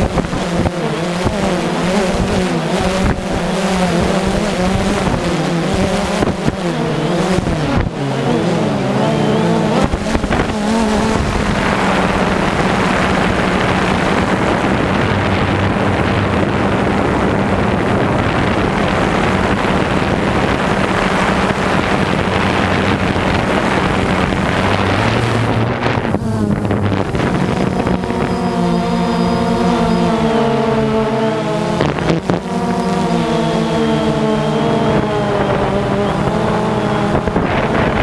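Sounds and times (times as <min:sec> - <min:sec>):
drone propellers buzzing: 0:00.0 - 0:38.0
wind rushing over microphone: 0:00.0 - 0:38.0.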